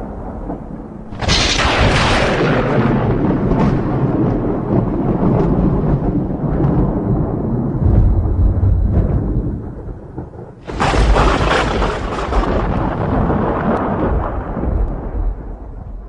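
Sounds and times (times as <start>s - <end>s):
thunder crack and rumble: 0.0s - 16.0s.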